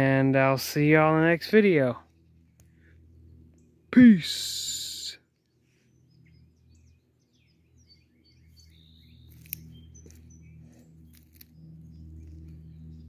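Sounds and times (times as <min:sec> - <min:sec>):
low steady hum: 0:00.0 - 0:13.0
songbirds chirping: 0:00.0 - 0:13.0.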